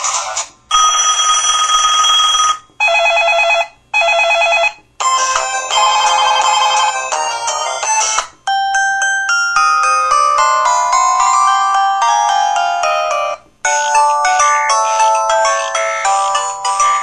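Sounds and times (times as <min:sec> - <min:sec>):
electronic phone ring: 0:00.7 - 0:17.0
ringtone melody: 0:00.7 - 0:17.0.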